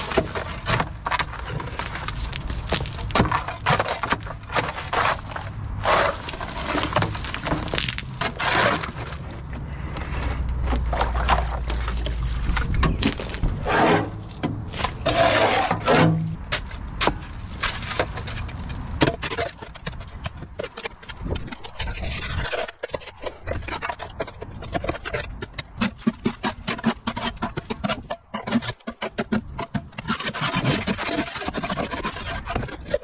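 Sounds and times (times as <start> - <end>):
hand tools scraping and knocking: 0.0 - 33.0.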